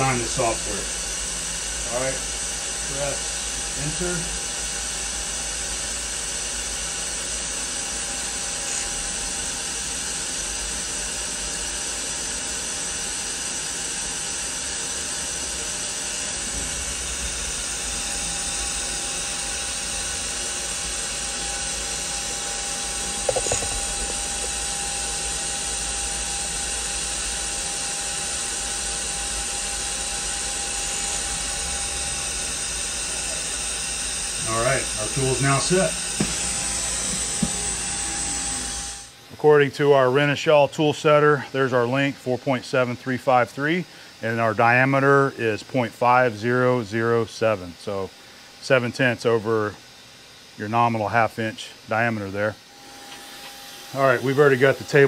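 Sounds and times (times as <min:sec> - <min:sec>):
machine hum with thin whine: 0:00.0 - 0:55.0.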